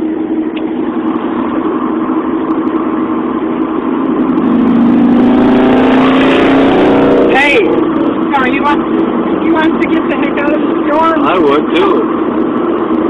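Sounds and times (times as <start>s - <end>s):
car cabin road noise: 0.0s - 13.0s
car engine hum: 0.0s - 13.0s.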